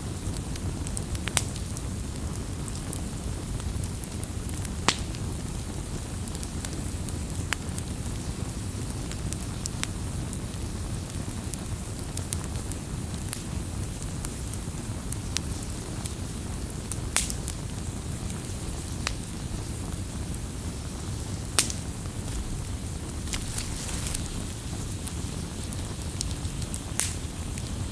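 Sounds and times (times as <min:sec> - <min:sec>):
fire rumbling: 0:00.0 - 0:27.9
firewood crackling and popping: 0:00.0 - 0:27.9.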